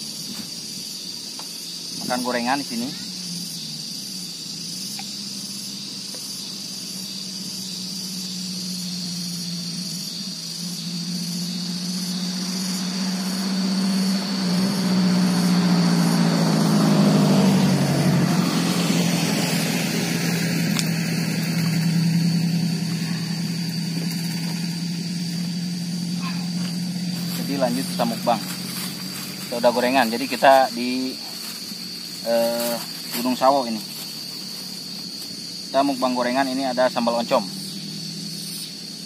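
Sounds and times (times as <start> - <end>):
engine hum: 0.0 - 39.0
high-pitched buzz: 1.8 - 38.9.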